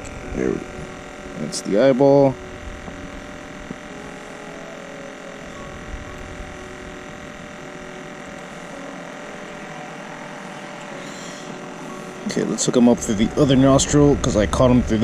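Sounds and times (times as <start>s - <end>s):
steady tonal hum: 0.0s - 15.0s.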